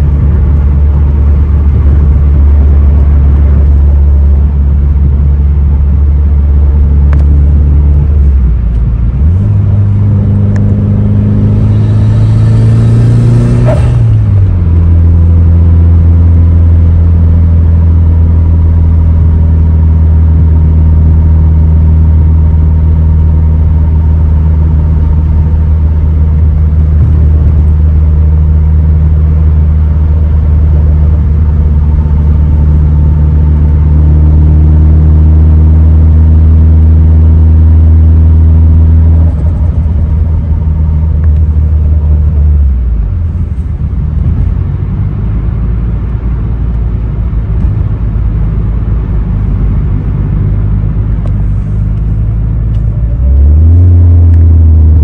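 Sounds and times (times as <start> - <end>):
car engine revving: 0.0 - 55.0
road noise: 0.0 - 55.0.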